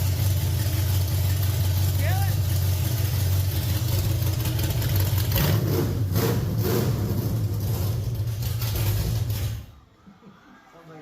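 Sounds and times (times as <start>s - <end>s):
rough vee-eight engine running: 0.0s - 9.6s.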